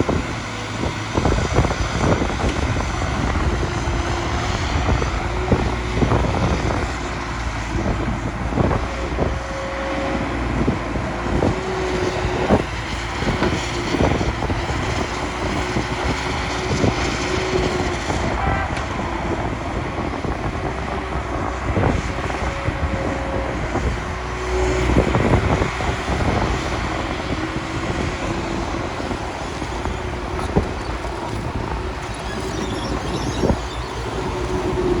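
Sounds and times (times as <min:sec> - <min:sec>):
heavy diesel engines running: 0:00.0 - 0:35.0.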